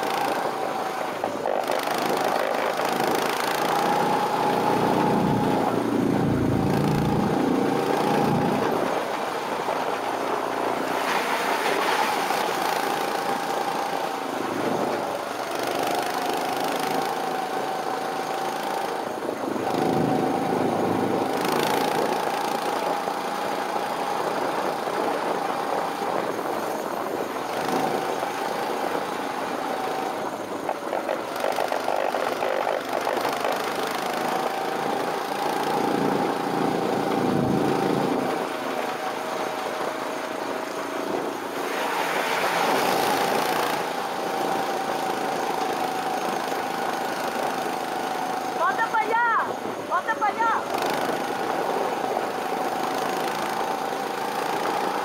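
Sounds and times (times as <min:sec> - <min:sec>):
go-kart engine running: 0:00.0 - 0:55.0
wind rumbling on microphone: 0:00.0 - 0:55.0.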